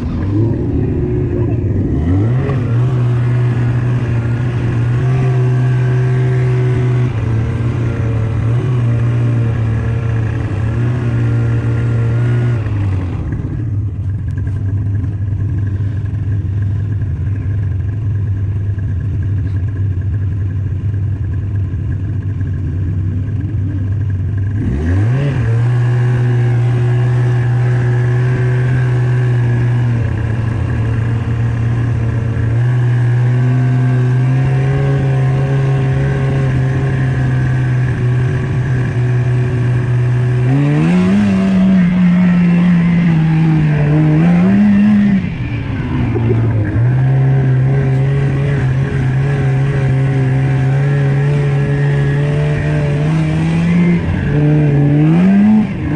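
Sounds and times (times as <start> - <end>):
snowmobile engine running: 0.0 - 55.9.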